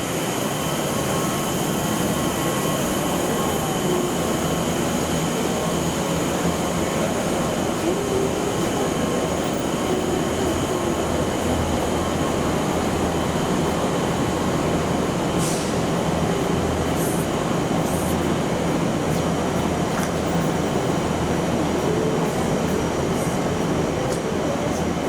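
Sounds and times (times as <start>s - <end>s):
train rumble and hiss: 0.0s - 25.0s.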